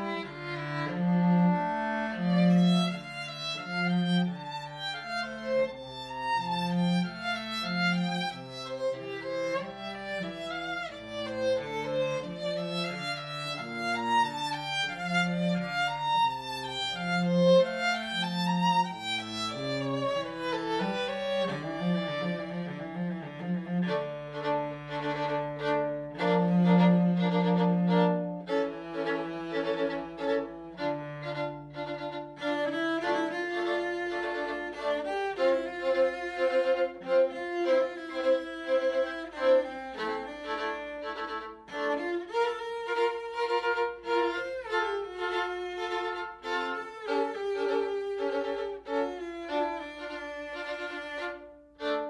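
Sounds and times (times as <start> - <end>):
cello low notes: 0.0 - 52.0
violin sustained notes: 0.0 - 52.0.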